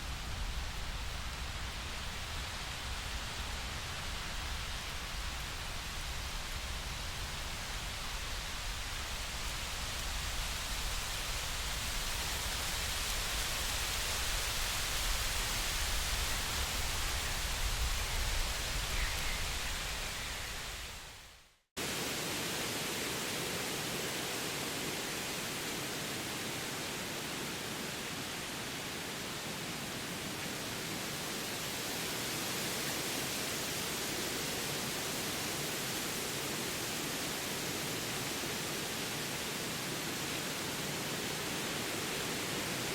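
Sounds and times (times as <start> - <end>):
rushing nature ambience: 0.0 - 42.9.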